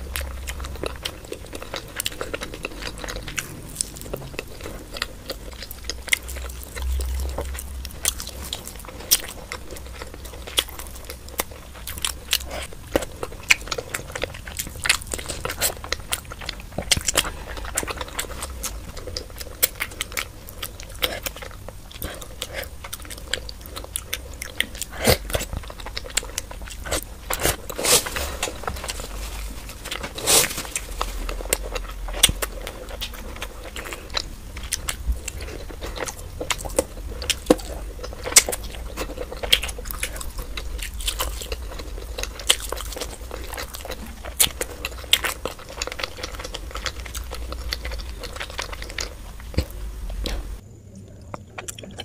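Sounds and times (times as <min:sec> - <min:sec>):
close chewing and biting: 0:00.0 - 0:52.0.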